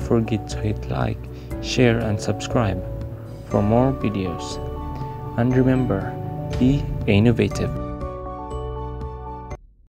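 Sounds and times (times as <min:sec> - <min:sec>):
background music with light beat: 0:00.0 - 0:09.6.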